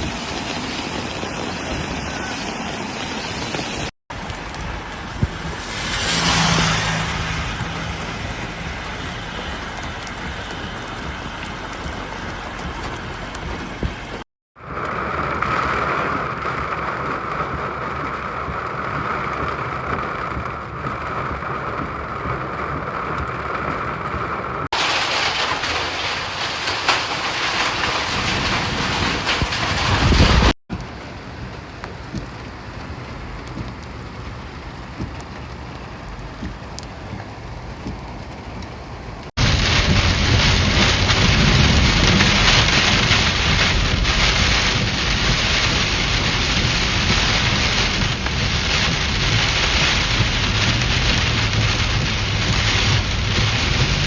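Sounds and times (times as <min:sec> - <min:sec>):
running water: 0:00.0 - 0:43.6
heavy rain: 0:00.0 - 0:54.0.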